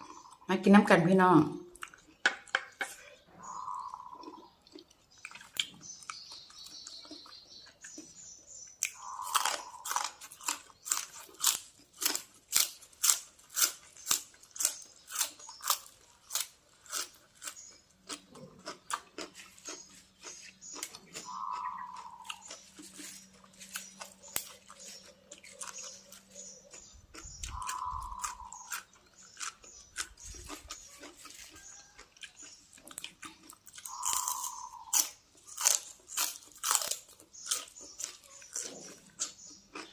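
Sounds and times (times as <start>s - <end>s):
crunchy chewing: 0.0s - 0.5s, 1.7s - 39.9s.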